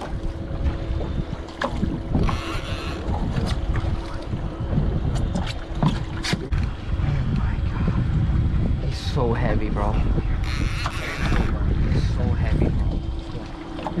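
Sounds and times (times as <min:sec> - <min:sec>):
faint steady hum: 0:00.0 - 0:14.0
water along a hull: 0:00.0 - 0:14.0
wind buffeting microphone: 0:00.0 - 0:14.0.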